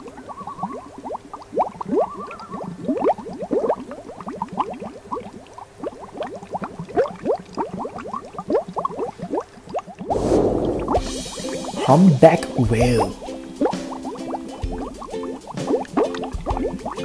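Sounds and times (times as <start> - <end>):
water bubbling: 0.0 - 17.0.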